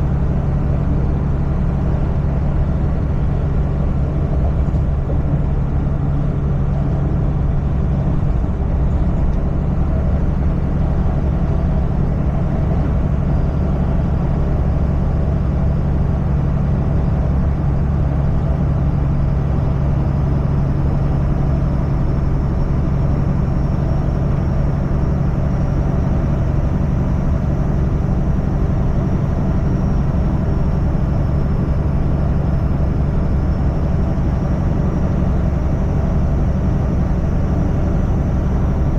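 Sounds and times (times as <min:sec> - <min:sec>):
diesel truck engine drone: 0:00.0 - 0:38.9
road noise: 0:00.0 - 0:38.9.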